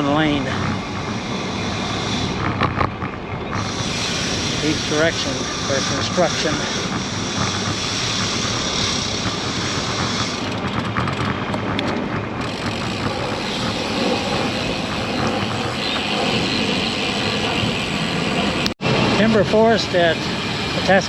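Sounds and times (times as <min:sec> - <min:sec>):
bicycle road noise: 0:00.0 - 0:21.0
wind rush: 0:00.0 - 0:21.0.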